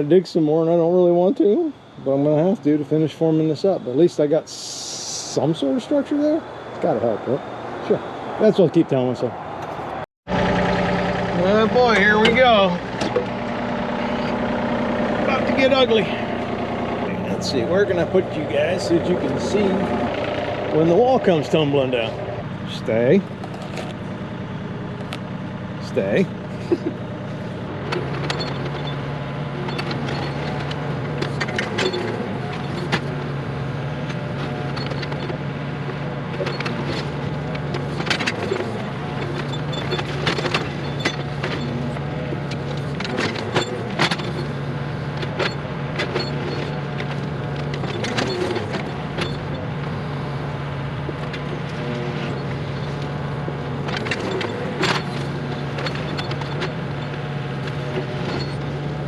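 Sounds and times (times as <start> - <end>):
low engine hum: 9.4 - 59.0.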